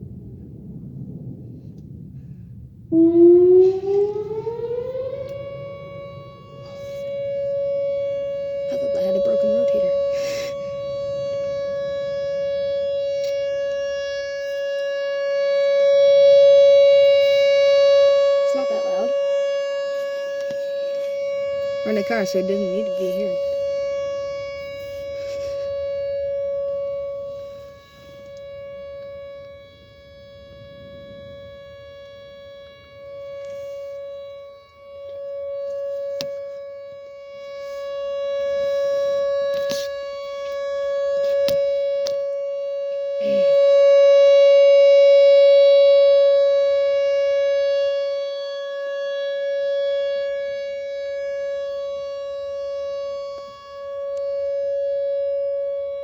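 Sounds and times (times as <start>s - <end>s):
steady warning siren tone: 0.0s - 56.0s.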